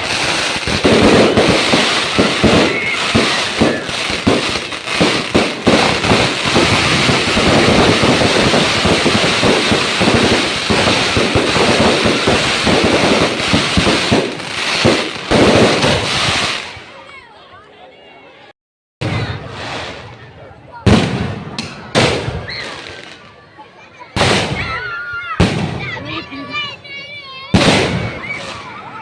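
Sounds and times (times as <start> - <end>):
fireworks bangs and crackles: 0.0 - 17.1, 19.0 - 29.0.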